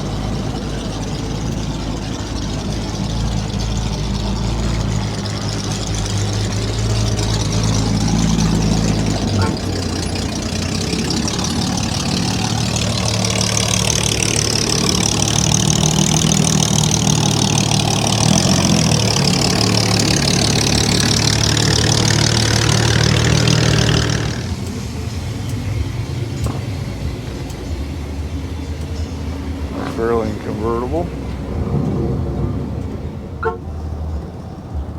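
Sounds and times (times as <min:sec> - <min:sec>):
car engine idling: 0:00.0 - 0:34.9
crowd background: 0:00.0 - 0:34.9.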